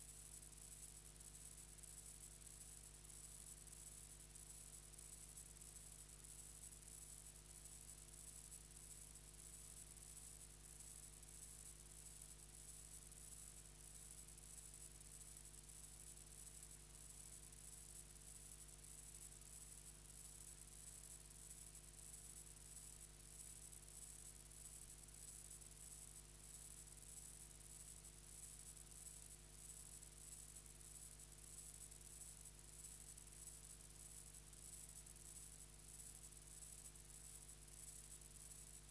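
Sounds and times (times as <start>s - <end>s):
faint steady hiss and hum: 0.0s - 38.9s.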